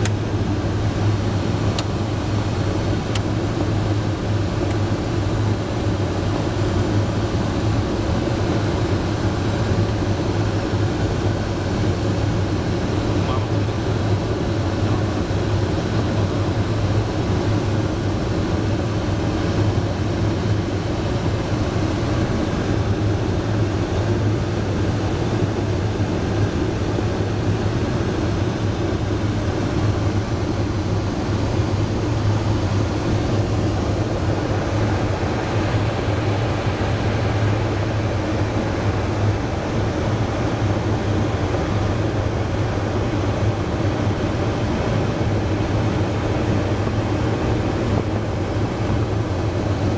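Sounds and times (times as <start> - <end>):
low steady drone: 0.0 - 49.9
rush of air over plane: 0.0 - 49.9.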